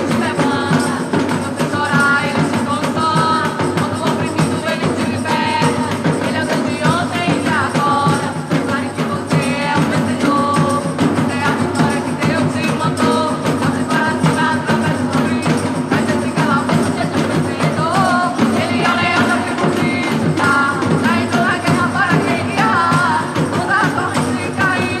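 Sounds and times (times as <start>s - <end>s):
drum beat: 0.0s - 25.0s
person singing: 0.0s - 25.0s.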